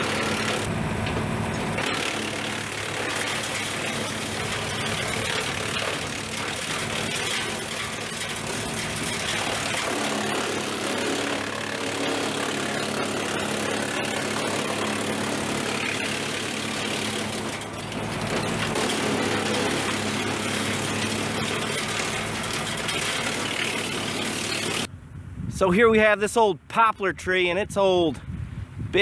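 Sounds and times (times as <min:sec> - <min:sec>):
tractor engine: 0:00.0 - 0:24.9
wood chipper grinding: 0:00.0 - 0:24.9.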